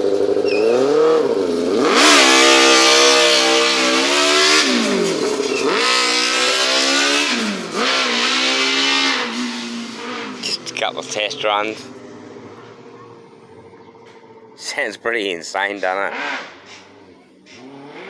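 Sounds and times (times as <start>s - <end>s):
motorcycle engine revving hard: 0.0s - 14.8s, 15.8s - 18.0s.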